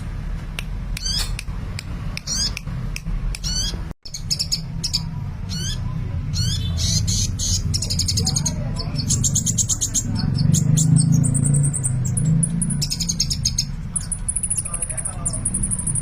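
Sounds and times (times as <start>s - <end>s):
bird singing chirps and trills: 2.2s - 2.6s, 3.4s - 16.0s.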